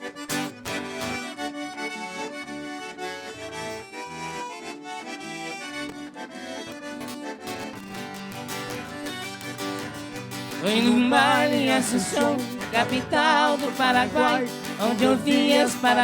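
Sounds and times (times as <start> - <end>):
accordion band music: 0.0 - 16.0.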